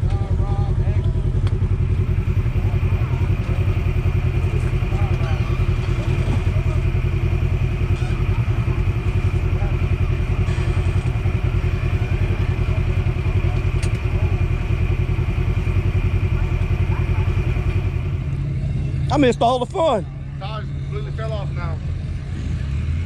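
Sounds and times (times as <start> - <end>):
off-road vehicle engine idling: 0.0 - 23.0.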